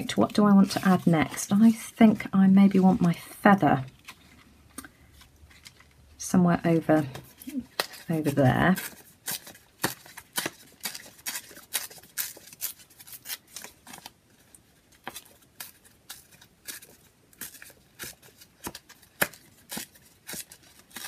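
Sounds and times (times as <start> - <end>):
paper crinkling and rustling: 0.0 - 6.0, 6.8 - 21.0.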